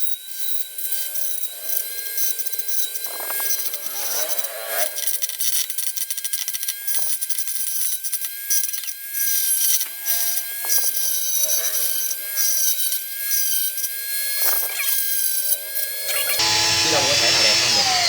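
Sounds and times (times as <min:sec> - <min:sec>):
saw cutting plastic: 0:00.0 - 0:18.0.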